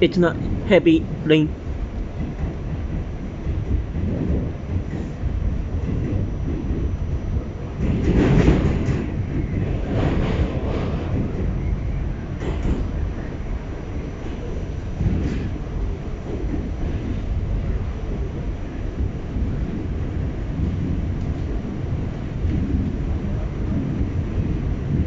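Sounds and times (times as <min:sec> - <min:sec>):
subway train wheels rumbling: 0:00.0 - 0:25.0
train clanks: 0:00.0 - 0:25.0.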